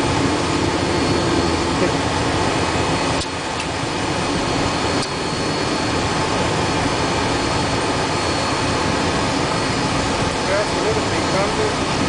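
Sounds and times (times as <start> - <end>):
jet engine rushing and whining: 0.0 - 12.0.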